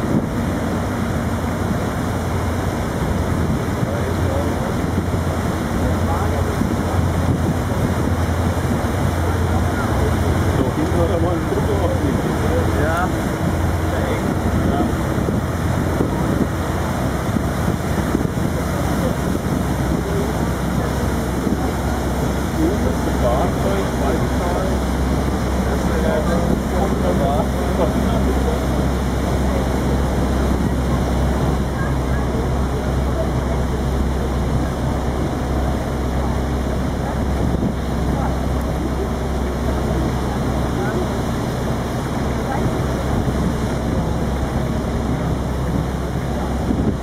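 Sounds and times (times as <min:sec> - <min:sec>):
boat engines rumbling: 0:00.0 - 0:47.0
churning wake water: 0:00.0 - 0:47.0
wind on microphone: 0:00.0 - 0:47.0.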